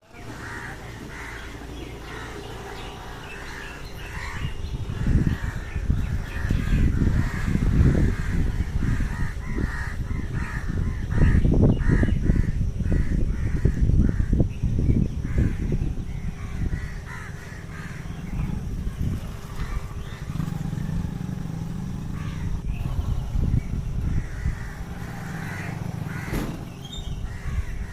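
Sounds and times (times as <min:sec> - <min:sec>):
loud uneven low rumble: 0:00.0 - 0:27.9
crows cawing: 0:00.2 - 0:14.4, 0:15.3 - 0:20.5, 0:22.1 - 0:22.6, 0:24.1 - 0:27.9.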